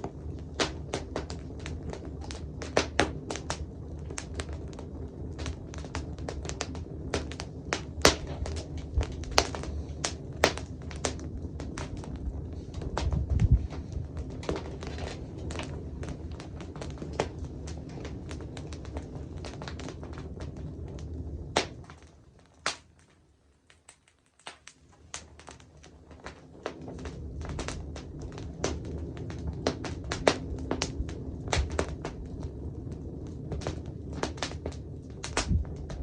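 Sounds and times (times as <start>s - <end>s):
campfire crackling and popping: 0.0s - 36.0s
low rumble: 1.2s - 22.2s, 26.7s - 36.0s.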